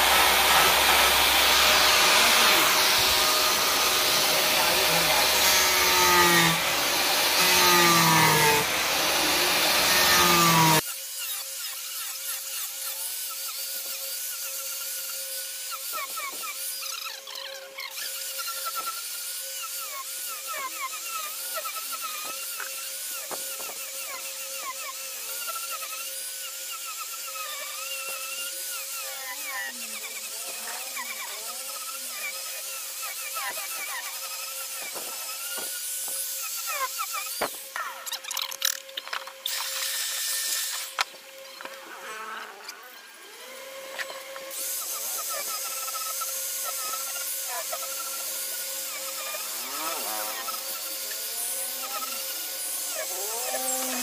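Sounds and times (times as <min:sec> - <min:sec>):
angle grinder sanding wood: 0:00.0 - 0:54.0.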